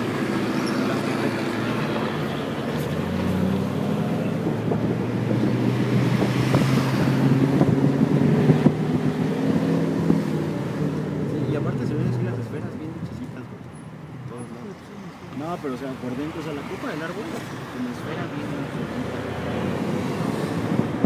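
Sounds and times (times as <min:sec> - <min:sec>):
car engine hum: 0:00.0 - 0:21.0
road noise inside car: 0:00.0 - 0:21.0.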